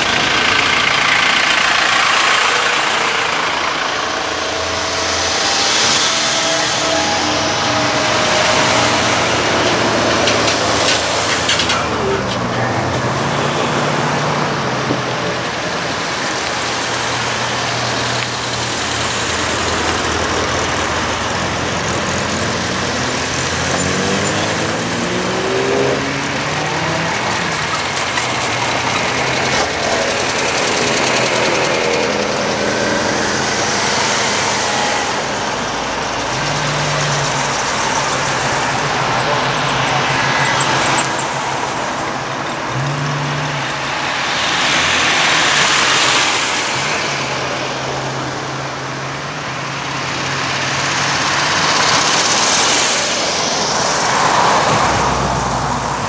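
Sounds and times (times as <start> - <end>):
cars driving past slowly: 0.0 - 56.0.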